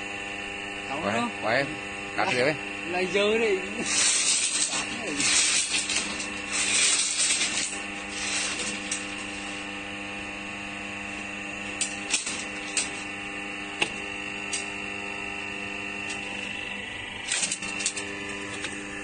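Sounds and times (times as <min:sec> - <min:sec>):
electric motor and pump humming: 0:00.0 - 0:19.0.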